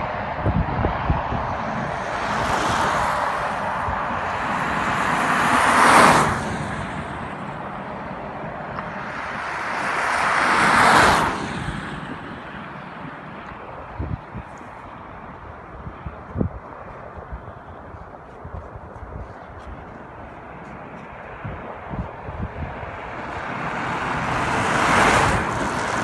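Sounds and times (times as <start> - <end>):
vehicles driving past: 0.0 - 26.0.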